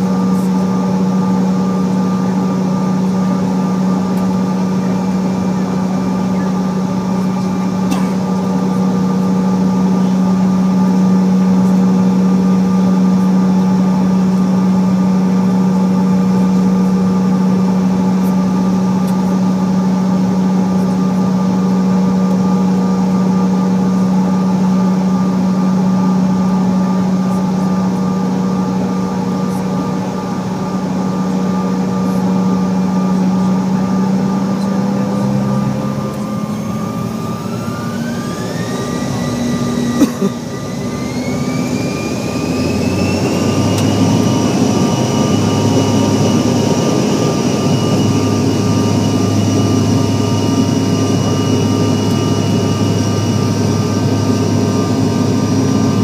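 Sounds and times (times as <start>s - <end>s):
jet engines idling hum: 0.0s - 56.0s.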